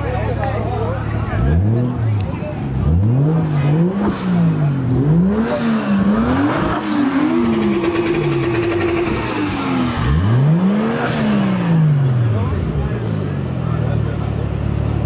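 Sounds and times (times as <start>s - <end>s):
car engine revving: 1.0s - 15.0s.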